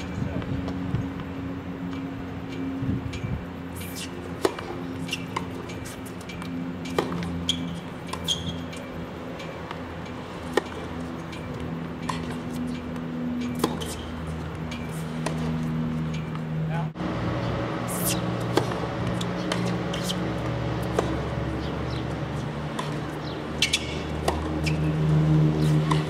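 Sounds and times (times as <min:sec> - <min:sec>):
steady low hum: 0:00.0 - 0:26.0
tennis ball struck by rackets: 0:03.8 - 0:16.5, 0:17.8 - 0:26.0.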